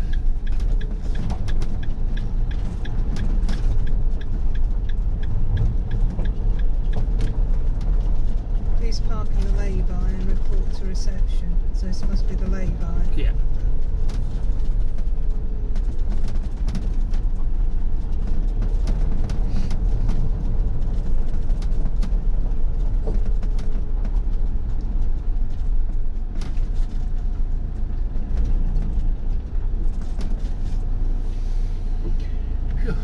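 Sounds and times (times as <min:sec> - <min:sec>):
gravel crackling under tyres: 0:00.0 - 0:10.9, 0:11.6 - 0:33.0
engine and road rumble: 0:00.0 - 0:33.0.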